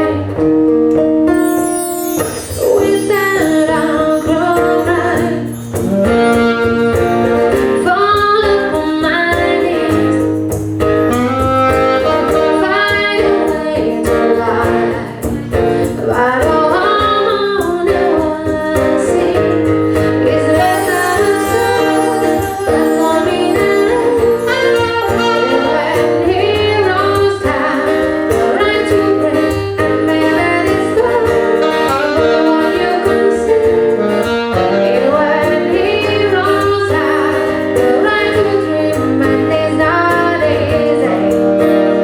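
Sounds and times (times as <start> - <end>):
guitar accompaniment: 0.0 - 42.0
woman singing pop song: 2.3 - 10.5, 11.9 - 42.0.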